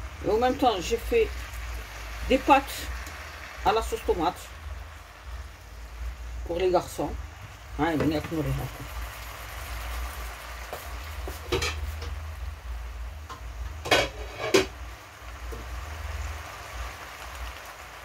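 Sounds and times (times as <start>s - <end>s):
spinach sizzling in a pan: 0.0s - 18.0s.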